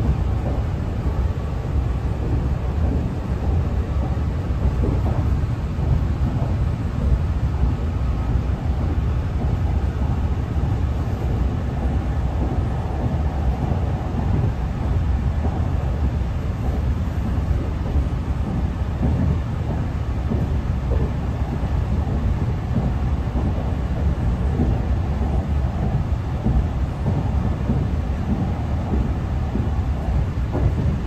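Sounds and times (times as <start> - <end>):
train running low rumble: 0.0 - 31.0.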